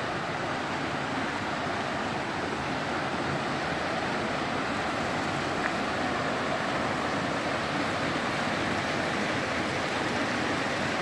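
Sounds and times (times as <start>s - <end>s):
waterfall and creek rushing: 0.0s - 11.0s.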